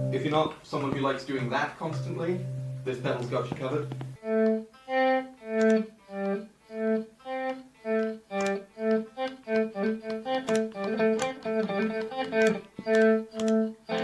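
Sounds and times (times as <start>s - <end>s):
swelling guitar notes: 0.0s - 14.0s.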